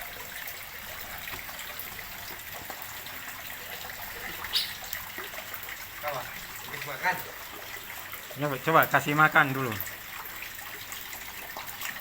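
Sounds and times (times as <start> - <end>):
water trickling into a pond: 0.0 - 12.0.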